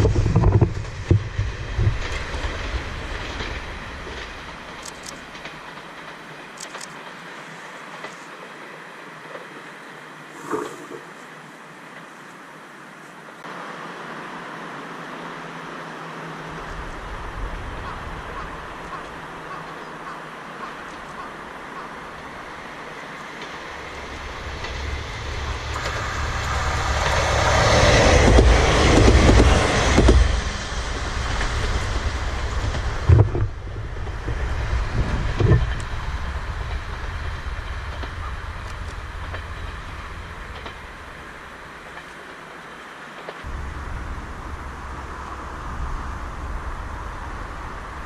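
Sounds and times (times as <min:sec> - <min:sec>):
wheels clacking over rail joints: 0:00.0 - 0:09.8, 0:16.4 - 0:48.0
diesel railcar passing: 0:00.0 - 0:12.7, 0:13.4 - 0:48.0.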